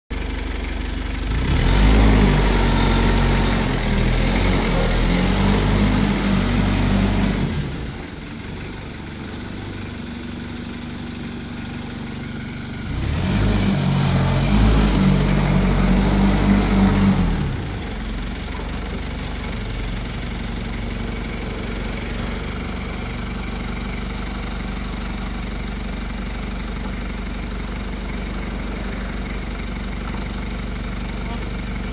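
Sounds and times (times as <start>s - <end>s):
diesel engine idling and revving: 0.1s - 31.9s.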